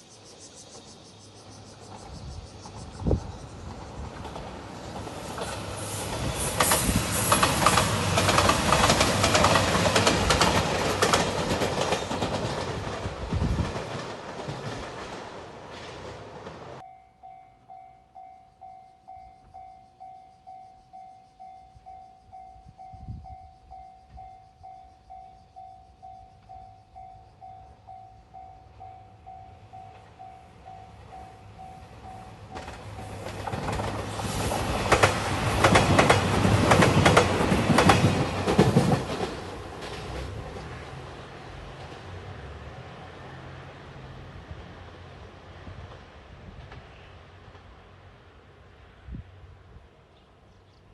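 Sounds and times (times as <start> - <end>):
diesel train passing at speed: 0.0 - 50.7.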